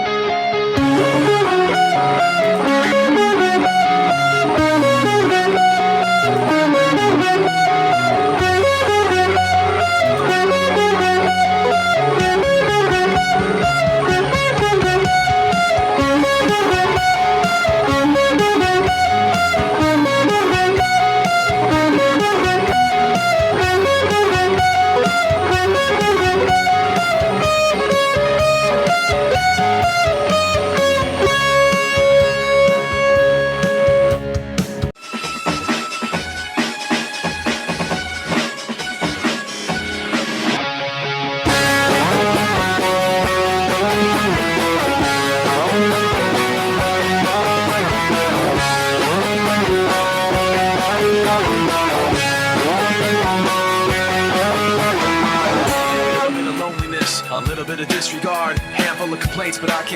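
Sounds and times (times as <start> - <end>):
electric guitar riff: 0.0 - 35.0, 37.8 - 59.9.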